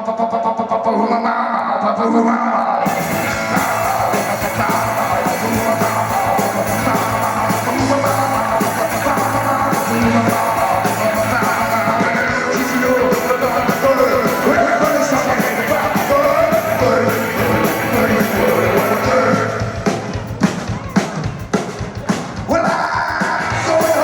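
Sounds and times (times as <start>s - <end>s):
person singing: 0.0s - 24.0s
live rock and roll band: 2.8s - 24.0s.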